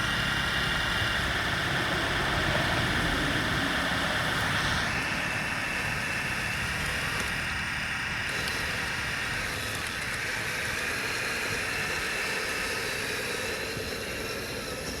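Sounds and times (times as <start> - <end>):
toy truck motors whining: 0.0 - 15.0.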